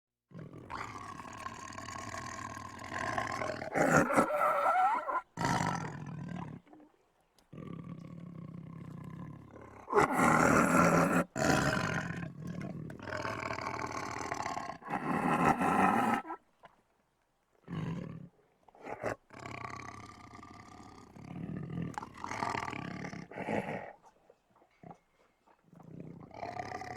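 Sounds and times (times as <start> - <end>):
tiger growling and roaring: 0.3 - 16.8, 17.6 - 26.9.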